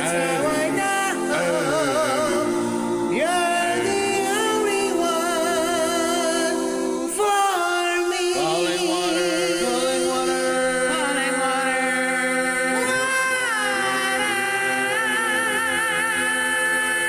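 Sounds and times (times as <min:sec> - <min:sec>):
man singing layered harmonies: 0:00.0 - 0:17.0.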